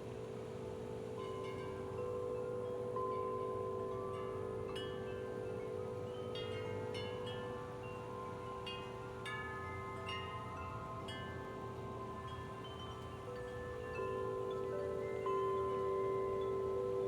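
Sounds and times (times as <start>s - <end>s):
metal wind chimes ringing: 0.0s - 17.0s.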